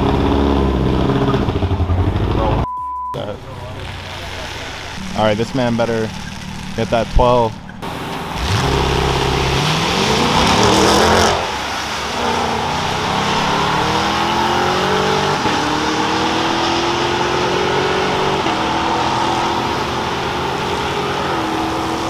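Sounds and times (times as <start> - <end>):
car engine accelerating hard: 0.0 - 2.6, 3.2 - 22.0.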